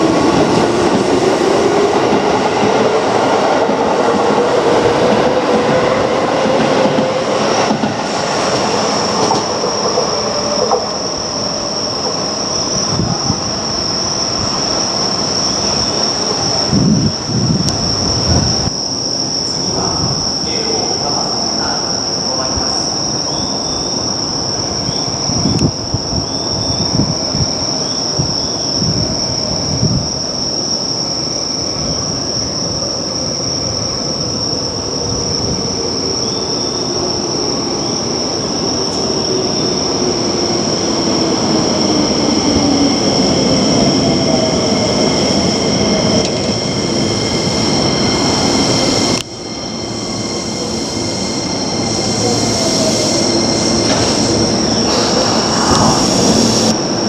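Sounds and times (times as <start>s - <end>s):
electric train high whine: 0.0s - 57.0s.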